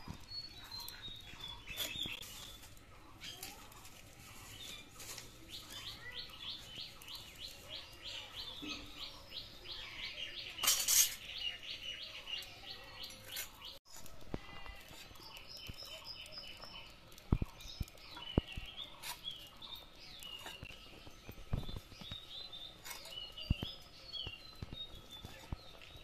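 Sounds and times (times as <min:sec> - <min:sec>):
bird chirping: 0:00.0 - 0:03.6, 0:04.4 - 0:13.8, 0:15.0 - 0:26.0.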